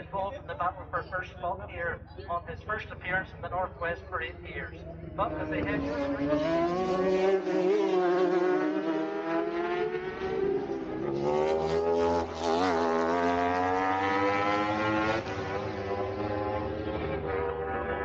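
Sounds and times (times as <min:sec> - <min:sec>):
racing motorcycle engines: 0:00.0 - 0:18.0.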